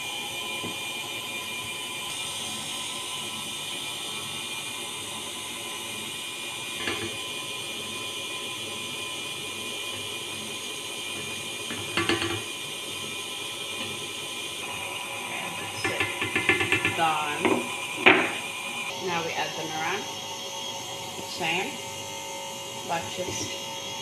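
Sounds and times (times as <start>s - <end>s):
stand mixer motor whining: 0.0s - 24.0s.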